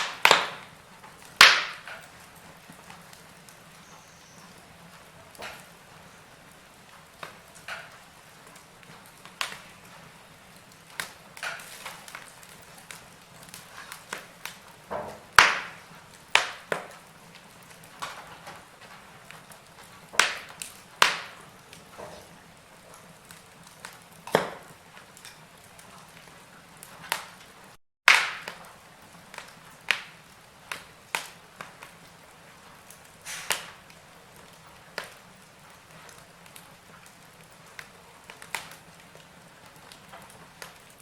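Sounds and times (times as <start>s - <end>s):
faint steady hiss: 0.0s - 41.0s
wood fire crackling: 0.0s - 41.0s.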